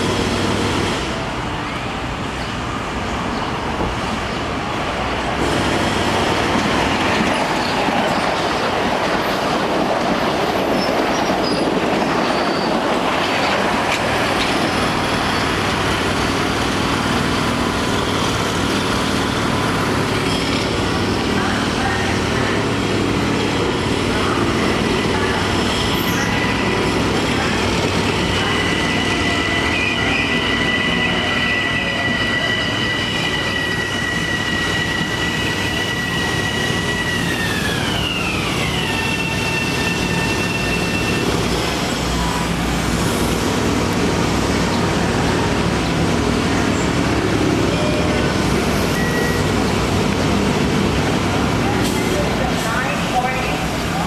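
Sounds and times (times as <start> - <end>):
high train motor whine: 0.0 - 54.0
train running on rails: 0.0 - 54.0.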